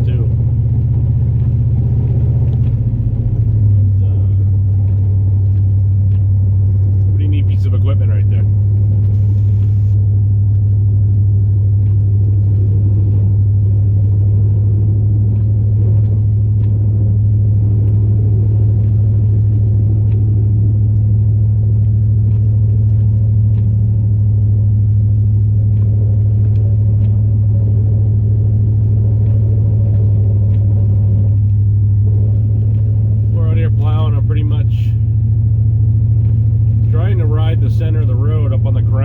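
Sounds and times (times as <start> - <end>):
truck engine drone in cab: 0.0 - 39.0.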